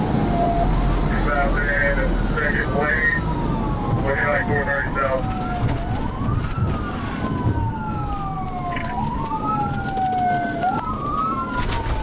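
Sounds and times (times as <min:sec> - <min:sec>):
police siren wailing: 0:00.0 - 0:12.0
road and engine noise: 0:00.0 - 0:12.0.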